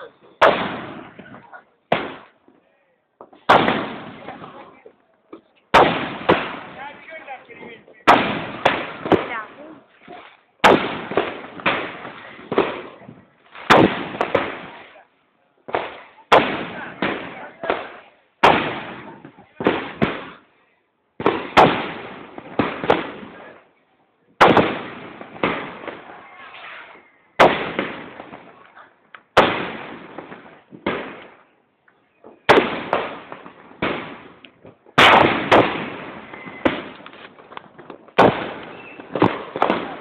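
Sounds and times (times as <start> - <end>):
fireworks bursting with loud bangs: 0.0 - 2.6, 3.2 - 20.5, 21.2 - 23.8, 24.4 - 40.0.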